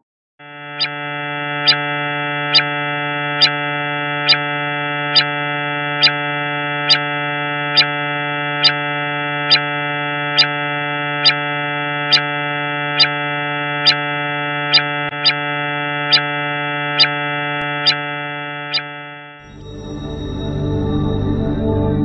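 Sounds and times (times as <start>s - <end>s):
electronic ambient drone: 0.5s - 22.0s.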